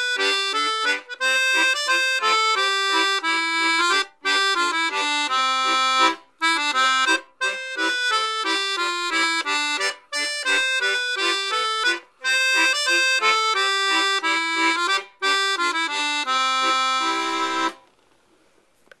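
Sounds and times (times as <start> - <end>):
piano accordion playing: 0.0 - 17.8.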